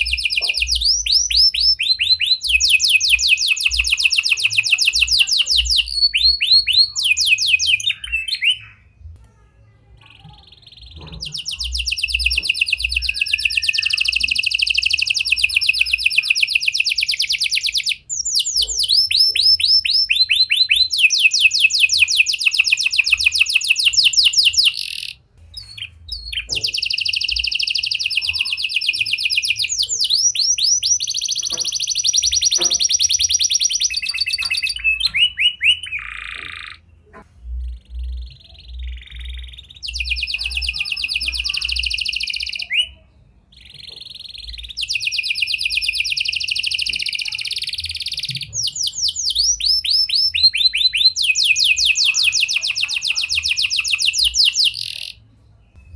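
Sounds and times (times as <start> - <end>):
canary singing trills: 0.0 - 9.1, 9.9 - 55.9.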